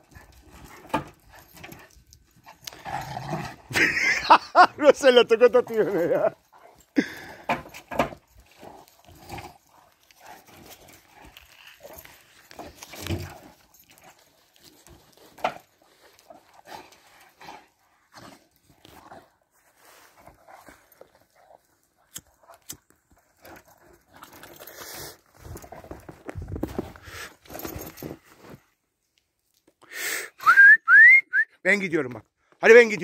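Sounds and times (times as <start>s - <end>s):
dogs playing noises: 0.0s - 4.7s, 5.6s - 28.6s.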